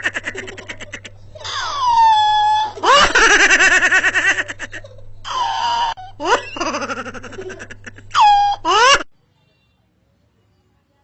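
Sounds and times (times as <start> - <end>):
high-pitched giggling laughter: 0.0 - 9.1.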